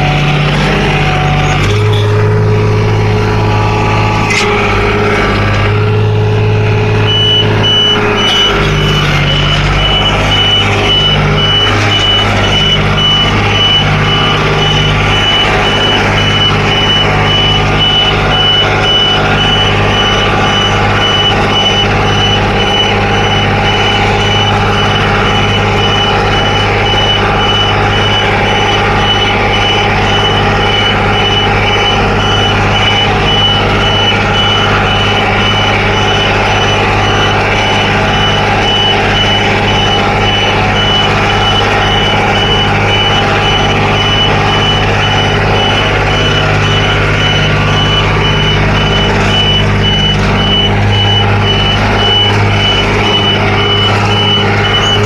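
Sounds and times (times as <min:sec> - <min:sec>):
fast high-pitched beeping: 0:00.0 - 0:55.0
tractor diesel engine running: 0:00.0 - 0:55.0.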